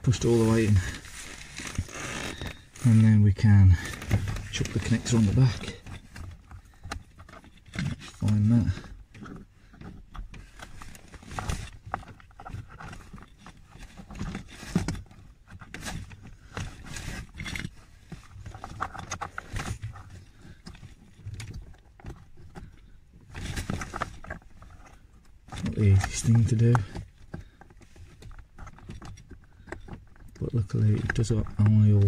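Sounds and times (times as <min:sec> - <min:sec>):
wiring rustling: 0:00.0 - 0:32.0.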